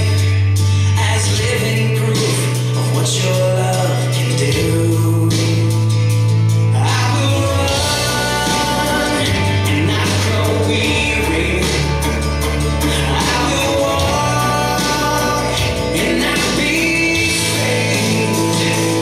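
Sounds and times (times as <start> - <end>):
bass line: 0.0 - 19.0
worship song with band: 0.0 - 19.0.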